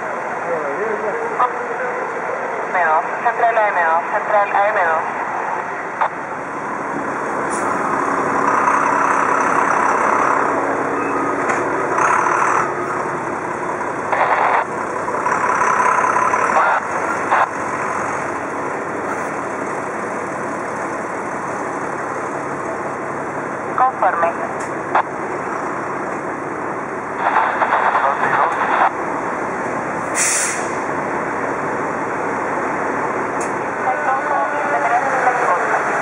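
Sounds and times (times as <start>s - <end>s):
fire truck diesel engine passing: 0.0s - 36.0s.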